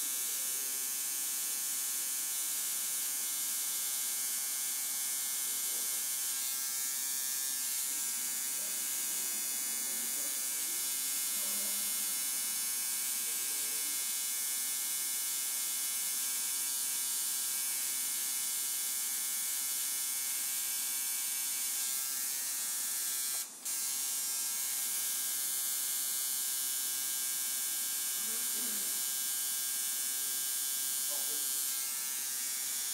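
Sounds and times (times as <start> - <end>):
tattoo machine buzzing: 0.0 - 32.9.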